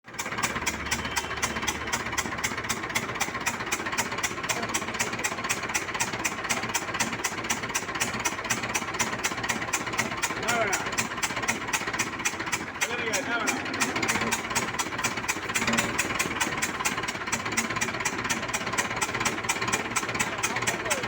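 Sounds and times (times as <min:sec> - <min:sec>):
sharp engine ticking: 0:00.0 - 0:21.0
tractor diesel engine idling: 0:00.0 - 0:21.0.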